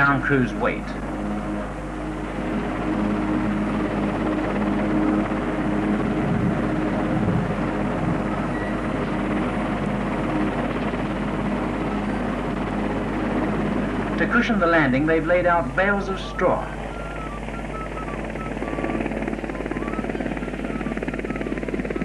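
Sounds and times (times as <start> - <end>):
constant low hum: 0.0 - 22.0
helicopter flying: 0.0 - 22.0.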